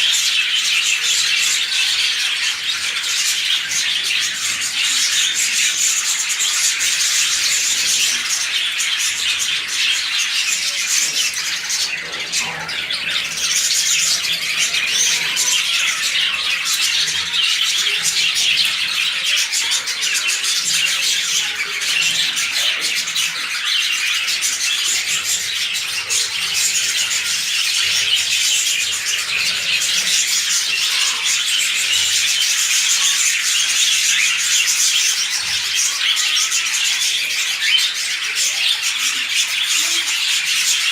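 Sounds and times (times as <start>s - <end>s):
lovebirds chirping and chattering: 0.0s - 40.9s.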